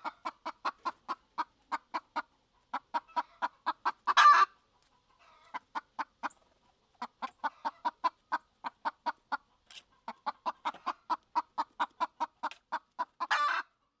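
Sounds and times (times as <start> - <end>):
rooster clucking: 0.0 - 13.8.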